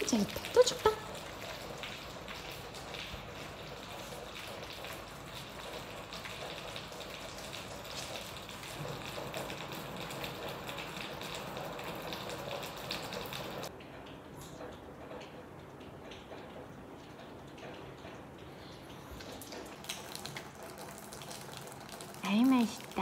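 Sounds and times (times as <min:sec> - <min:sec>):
kitchen tap running: 0:00.0 - 0:13.7, 0:16.8 - 0:23.0.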